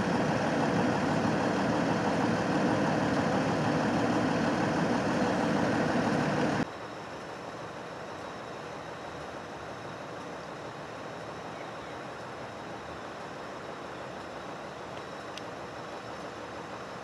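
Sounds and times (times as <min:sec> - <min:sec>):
heavy vehicle engine idling: 0:00.0 - 0:17.0
steady background noise: 0:00.0 - 0:17.0.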